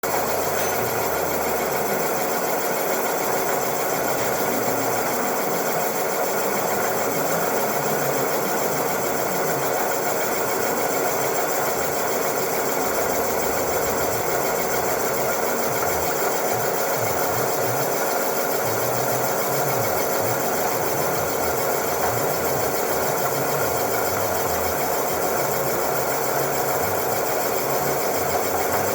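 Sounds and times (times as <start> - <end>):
boring machine drone and whine: 0.0 - 28.9.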